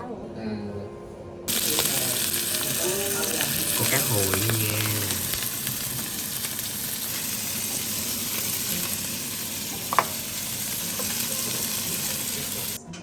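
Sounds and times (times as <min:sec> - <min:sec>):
food sizzling in frying pan: 0:01.5 - 0:12.8.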